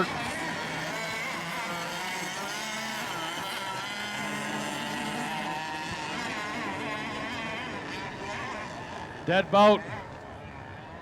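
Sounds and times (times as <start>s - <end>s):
model boat engines whining: 0.0s - 11.0s.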